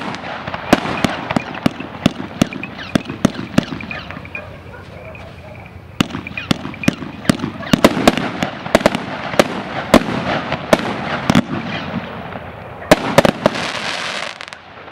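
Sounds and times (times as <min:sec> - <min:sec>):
fireworks shots and bursts: 0:00.0 - 0:14.9.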